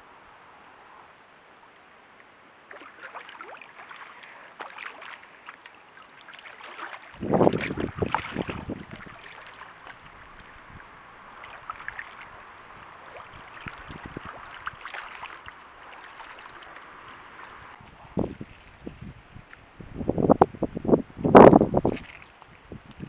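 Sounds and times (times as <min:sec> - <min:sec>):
water splashing and lapping: 0:02.6 - 0:19.8, 0:21.3 - 0:23.0.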